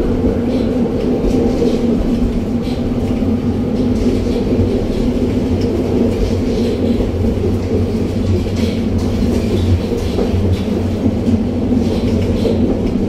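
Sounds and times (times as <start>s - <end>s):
tram wheels rumbling: 0.0s - 13.0s.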